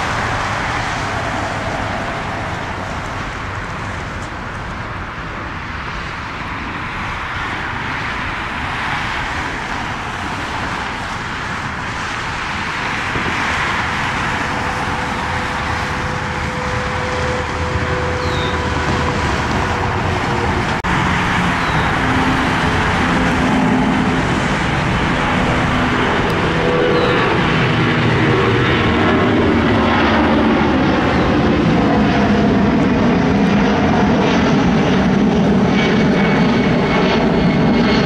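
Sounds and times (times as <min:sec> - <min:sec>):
faint engine whine: 0:00.0 - 0:38.0
jet engines rushing: 0:00.0 - 0:38.0.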